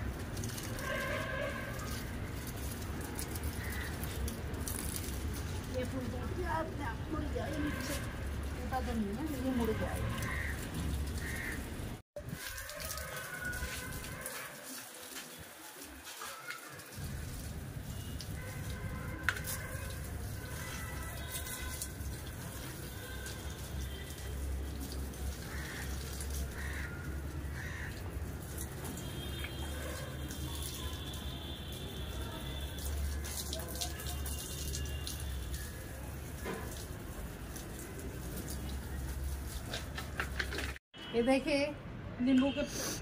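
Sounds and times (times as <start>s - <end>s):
hose water splashing on soil: 0.0s - 40.8s.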